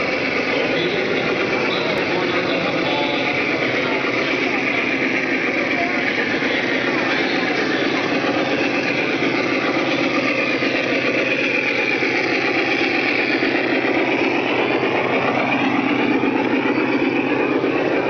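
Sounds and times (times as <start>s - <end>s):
model train wheels rattling: 0.0s - 18.0s
motor hum: 0.0s - 18.0s.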